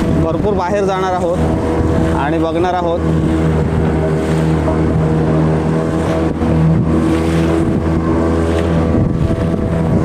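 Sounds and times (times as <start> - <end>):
outboard motor running: 0.0 - 10.0
water splashing along hull: 0.0 - 10.0.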